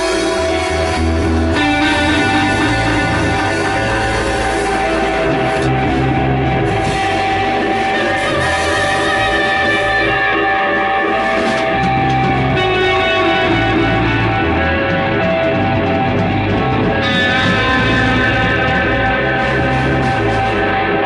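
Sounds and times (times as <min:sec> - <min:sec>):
bass guitar: 0:00.0 - 0:21.0
electric guitar long notes: 0:00.0 - 0:21.0.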